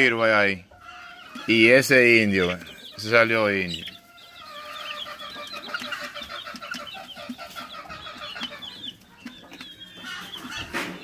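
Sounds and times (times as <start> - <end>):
chicks chirping: 0.0 - 11.0.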